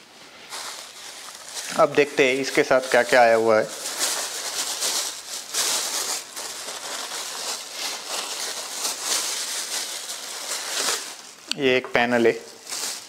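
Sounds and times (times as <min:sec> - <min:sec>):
plastic bag crinkling: 0:00.3 - 0:11.5, 0:12.1 - 0:13.0.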